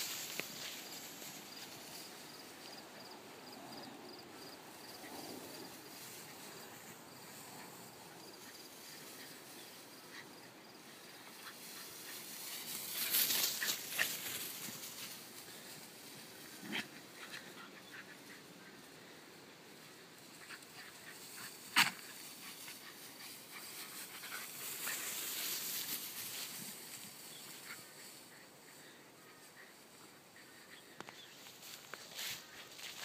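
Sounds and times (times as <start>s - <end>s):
grass rustling: 0.0s - 33.0s.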